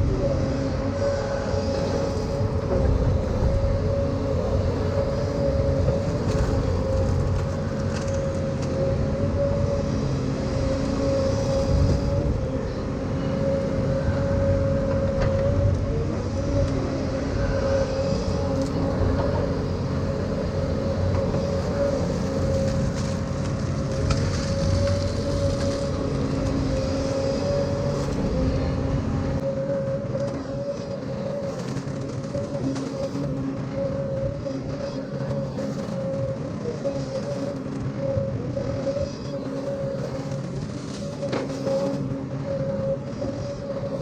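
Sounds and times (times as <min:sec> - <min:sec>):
excavator diesel engine running: 0:00.0 - 0:44.0
steady whine: 0:00.0 - 0:44.0.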